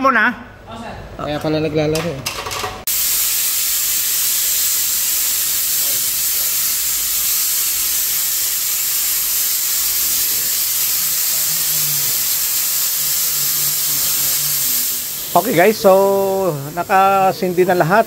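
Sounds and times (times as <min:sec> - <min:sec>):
loud steady hiss: 0:02.8 - 0:18.0.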